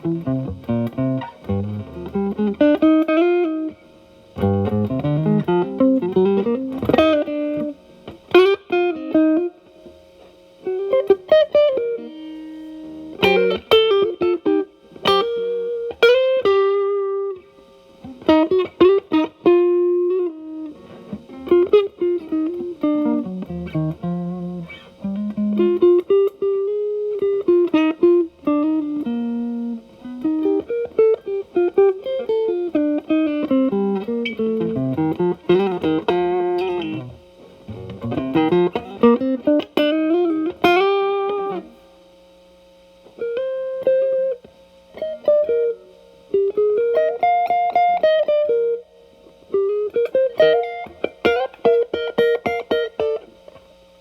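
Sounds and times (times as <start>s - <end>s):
distorted electric guitar lead: 0.0s - 41.9s, 43.0s - 53.6s.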